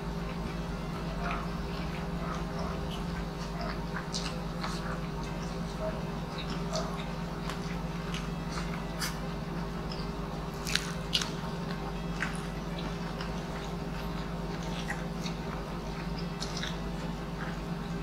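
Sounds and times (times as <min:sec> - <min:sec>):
crunchy bites and chewing: 0:00.0 - 0:18.0
steady low hum: 0:00.0 - 0:18.0.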